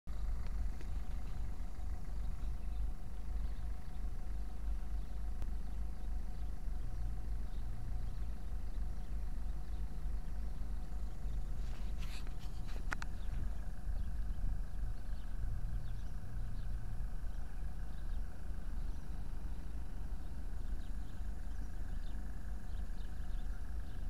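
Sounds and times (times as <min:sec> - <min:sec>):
car engine running nearby: 0:00.1 - 0:24.0
road traffic rumble: 0:00.1 - 0:24.0.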